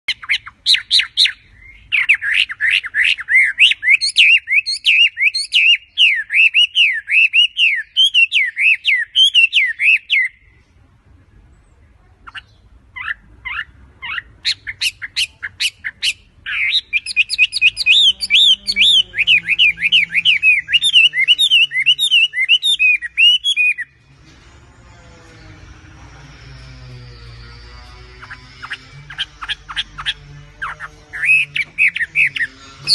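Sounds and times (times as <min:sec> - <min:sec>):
bird warbling song: 0:00.1 - 0:10.6, 0:11.5 - 0:24.2, 0:24.8 - 0:32.9.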